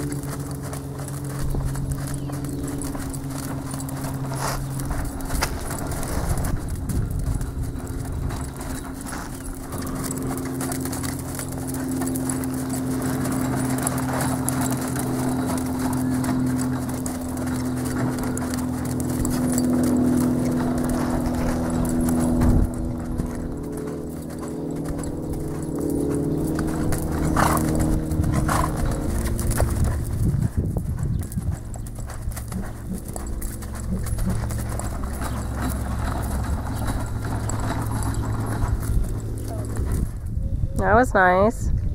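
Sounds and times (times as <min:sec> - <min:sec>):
horse hoofbeats on sand: 0:00.0 - 0:41.9
low mechanical hum: 0:00.0 - 0:41.9.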